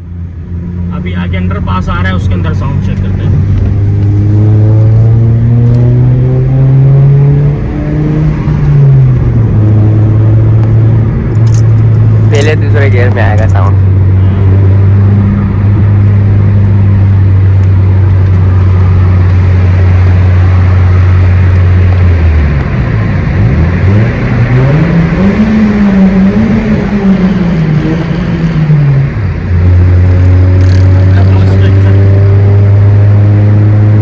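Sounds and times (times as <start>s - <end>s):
car engine droning and revving: 0.0s - 34.0s.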